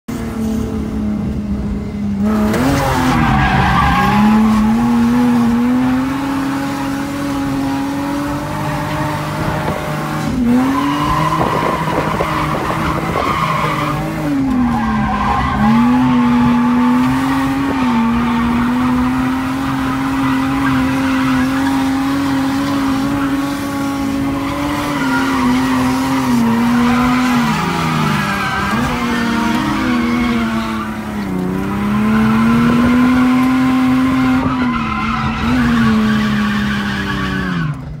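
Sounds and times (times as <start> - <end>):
car engine at high revs: 0.1 - 38.0
tires squealing: 2.2 - 38.0.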